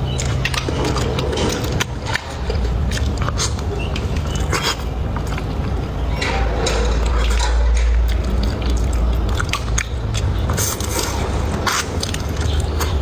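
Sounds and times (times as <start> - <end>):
chewing with crackles: 0.0 - 13.0
steady low hum: 0.0 - 13.0.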